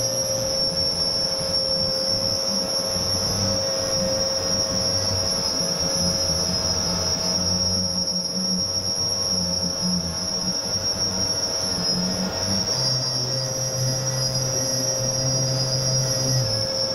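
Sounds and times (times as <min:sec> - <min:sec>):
orbital sander whining: 0:00.0 - 0:16.9.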